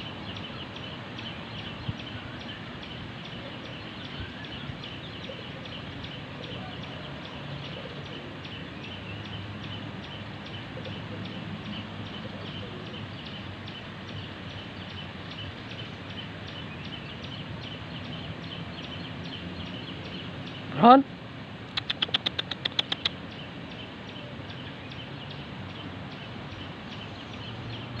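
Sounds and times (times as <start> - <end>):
sparrows chirping: 0.0 - 20.8, 21.7 - 28.0.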